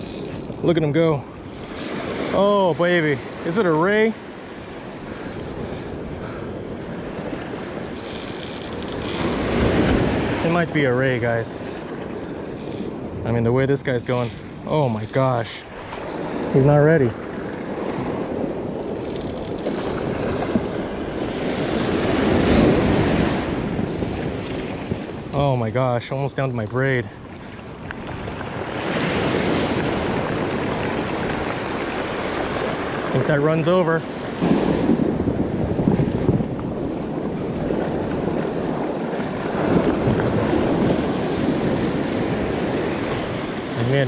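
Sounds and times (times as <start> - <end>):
ocean surf washing in: 0.0 - 44.0
wind on microphone: 0.0 - 44.0.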